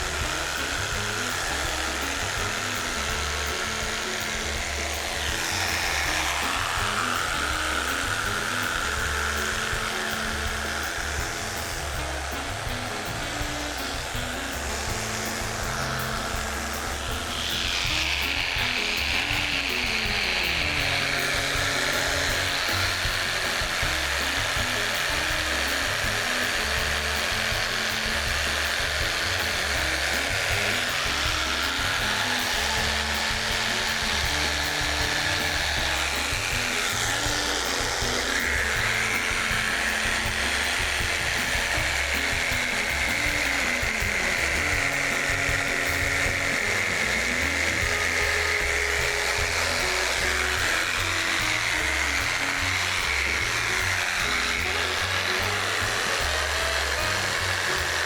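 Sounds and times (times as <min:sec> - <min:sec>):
background music with bass line: 0:00.0 - 0:58.0
power tool whining: 0:00.0 - 0:58.0.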